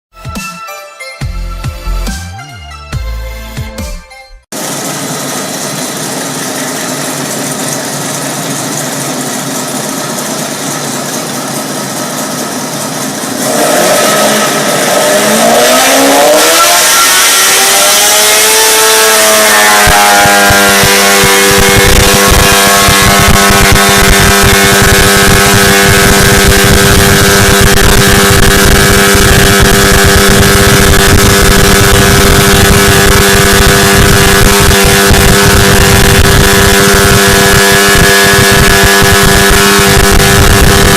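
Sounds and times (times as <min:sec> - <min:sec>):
engine revving up: 0:04.6 - 0:40.9.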